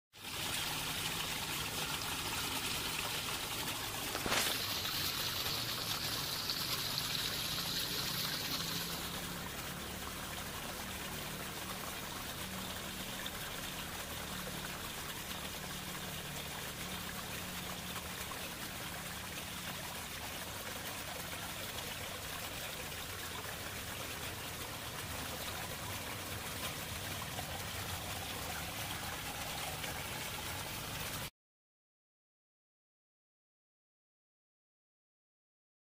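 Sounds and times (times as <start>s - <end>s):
water trickling: 0.2s - 31.3s.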